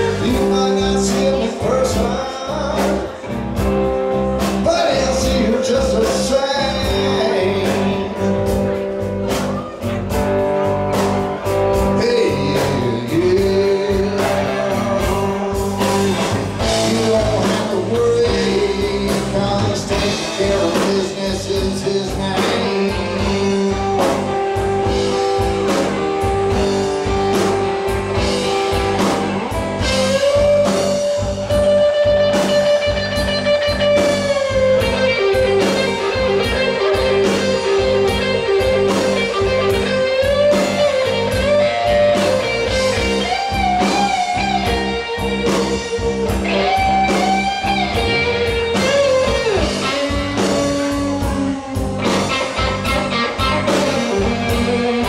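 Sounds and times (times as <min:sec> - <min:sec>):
bending electric guitar notes: 0:00.0 - 0:55.0
blues-rock band playing: 0:00.0 - 0:55.0.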